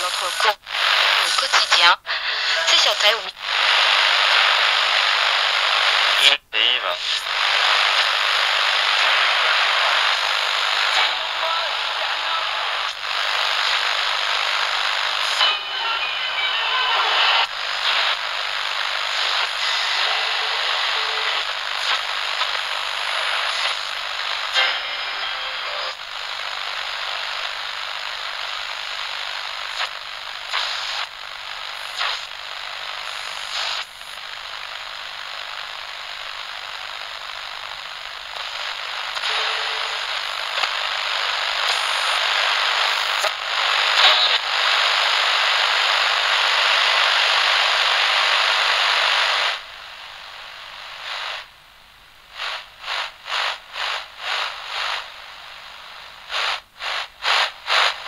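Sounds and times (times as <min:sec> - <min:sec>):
radio static hiss: 0:00.0 - 0:58.0
static bursts: 0:00.0 - 0:58.0.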